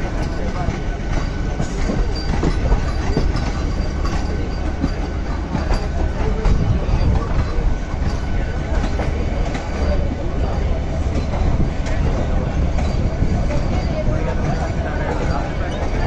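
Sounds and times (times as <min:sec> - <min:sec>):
train rumbling on rails: 0:00.0 - 0:16.0
wheels clicking over rail joints: 0:00.0 - 0:16.0.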